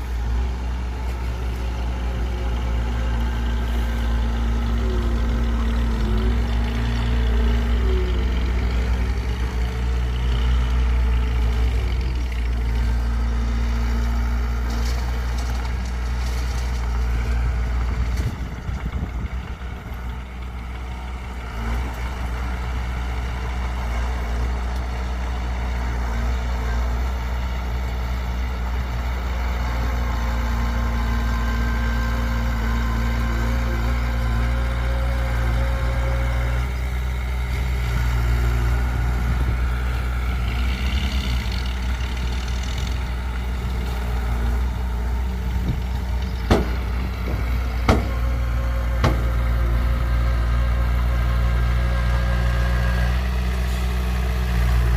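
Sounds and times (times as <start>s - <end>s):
heavy diesel machinery running: 0.0s - 54.9s.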